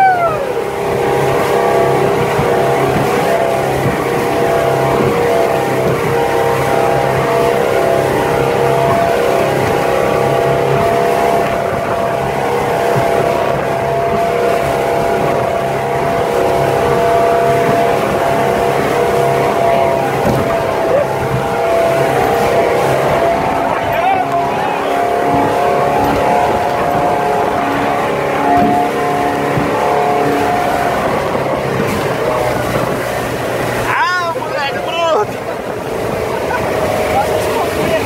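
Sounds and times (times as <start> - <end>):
motorboat engine drone: 0.0 - 38.0
rush of wind and water: 0.0 - 38.0.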